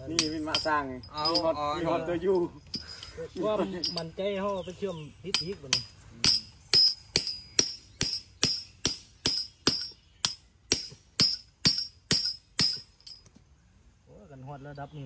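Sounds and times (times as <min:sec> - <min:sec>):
hammer striking steel shackle: 0:00.0 - 0:01.6, 0:02.7 - 0:13.4.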